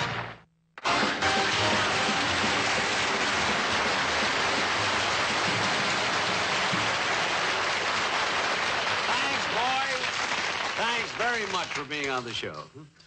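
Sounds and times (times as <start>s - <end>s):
studio audience applauding: 0.0s - 12.6s.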